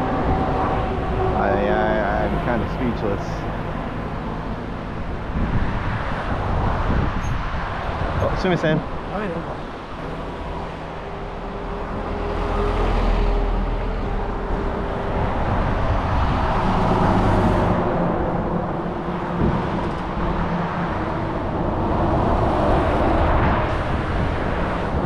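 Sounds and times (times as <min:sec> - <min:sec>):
vehicle engine hum: 0:00.0 - 0:25.0
wind rushing on microphone: 0:00.0 - 0:25.0.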